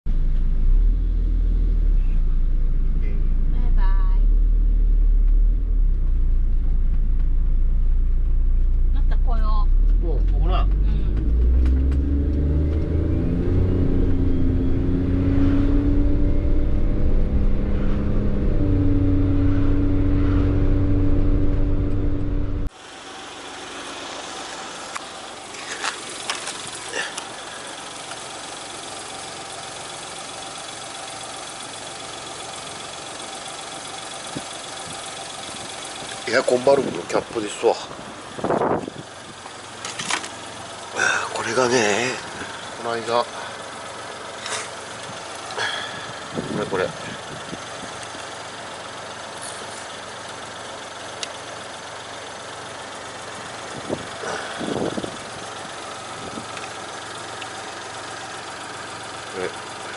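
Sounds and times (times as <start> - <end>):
car engine idling: 0.1 - 59.9.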